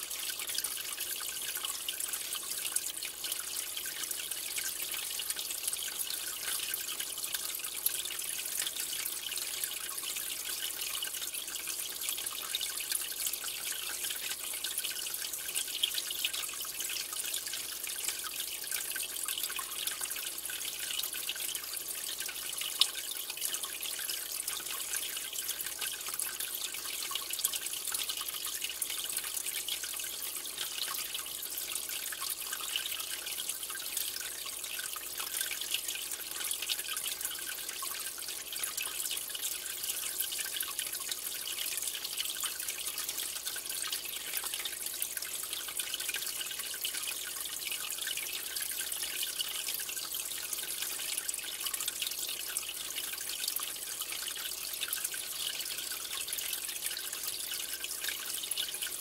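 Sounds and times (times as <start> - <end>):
aquarium water trickling: 0.0 - 59.0.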